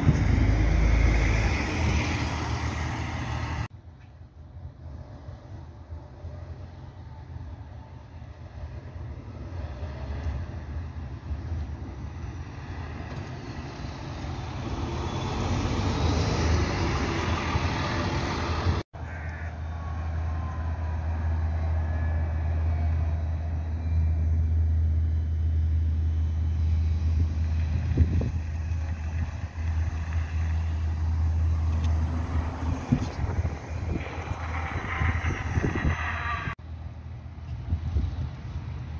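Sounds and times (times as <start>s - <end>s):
buses driving past: 0.0s - 38.9s.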